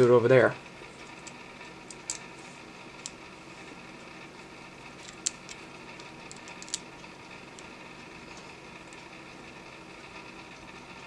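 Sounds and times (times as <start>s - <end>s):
faint hiss and hum: 0.0s - 11.0s.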